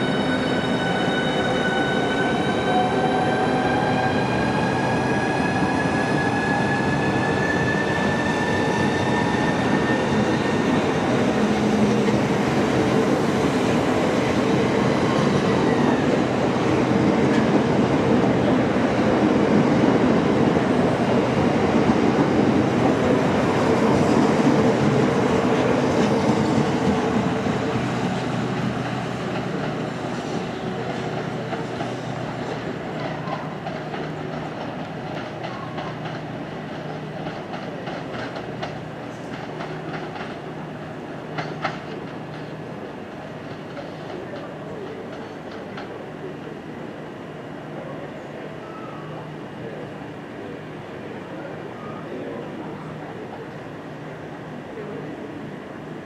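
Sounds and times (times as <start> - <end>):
train running on rails: 0.0 - 56.0.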